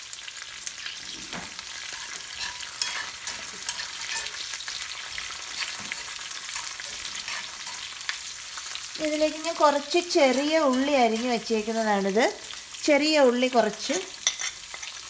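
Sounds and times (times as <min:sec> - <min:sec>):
oil sizzling in a pan: 0:00.0 - 0:15.0
sharp crackles of frying seeds: 0:00.0 - 0:15.0.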